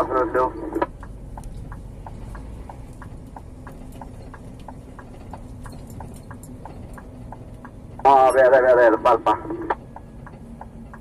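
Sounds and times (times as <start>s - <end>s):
indicator relay ticking: 0.0s - 8.4s, 9.2s - 11.0s
truck engine running: 0.0s - 11.0s.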